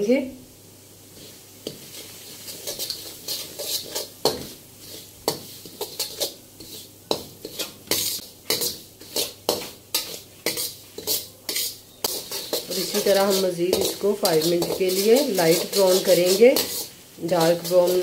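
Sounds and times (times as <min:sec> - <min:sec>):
metal spatula scraping a pan: 0:01.2 - 0:18.0.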